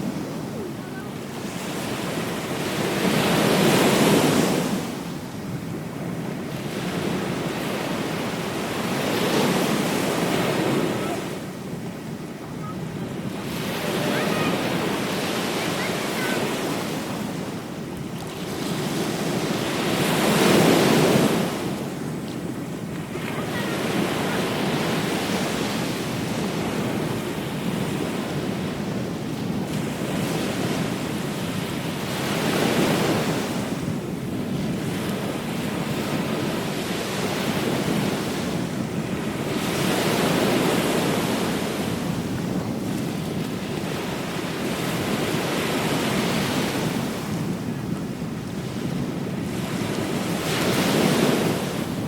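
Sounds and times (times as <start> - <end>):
ocean waves breaking: 0.0 - 52.0
wind buffeting microphone: 0.0 - 52.0.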